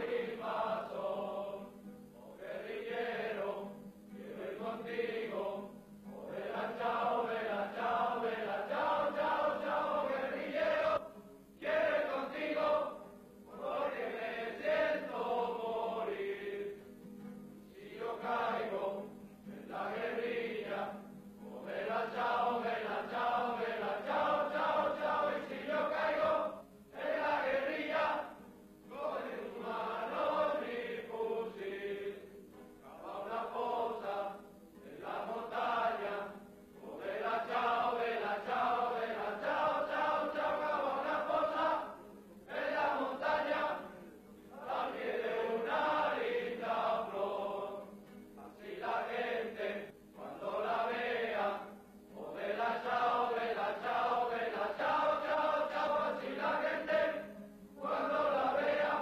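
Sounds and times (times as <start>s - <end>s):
men singing in unison: 0.0s - 16.8s, 17.8s - 59.0s.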